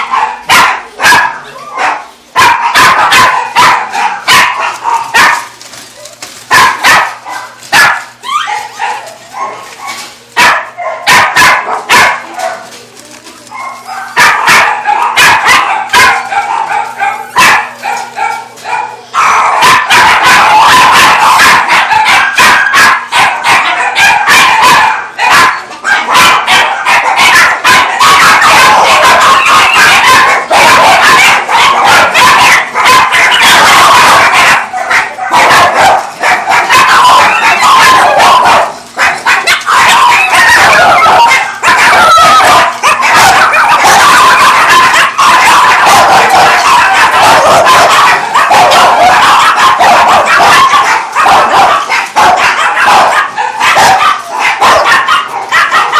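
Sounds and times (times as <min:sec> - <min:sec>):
many dogs barking and yelping: 0:00.0 - 0:55.9.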